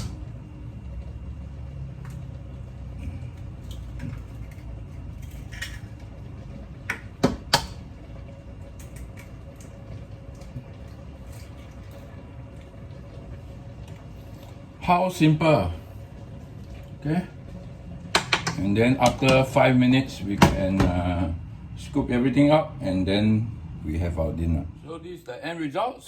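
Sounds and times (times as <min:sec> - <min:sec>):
low rumble of cooking pot: 0:00.0 - 0:25.5.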